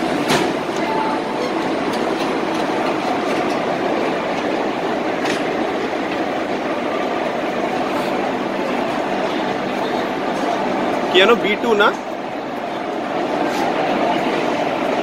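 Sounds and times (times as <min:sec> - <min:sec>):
train coaches rumbling: 0:00.0 - 0:15.0.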